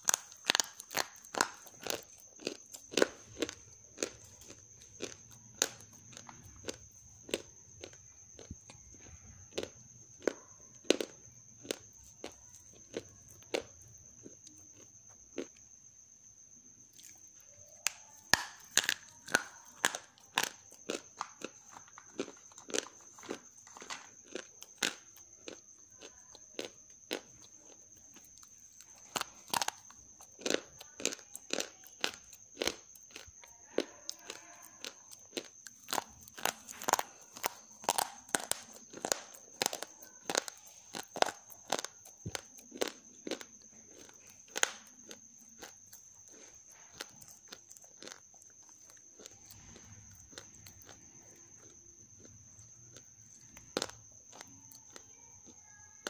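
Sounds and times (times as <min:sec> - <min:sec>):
crunching clay chunks: 0:00.0 - 0:15.6, 0:16.9 - 0:56.0.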